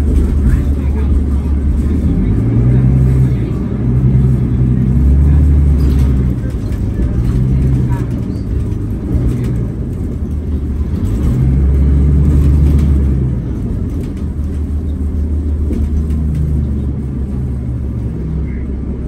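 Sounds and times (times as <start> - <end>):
bus diesel engine drone: 0.0 - 19.0
road rumble: 0.0 - 19.0.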